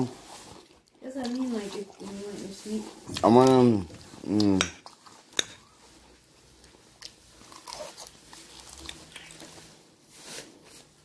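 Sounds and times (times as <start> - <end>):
chewing salad greens: 0.0 - 10.9.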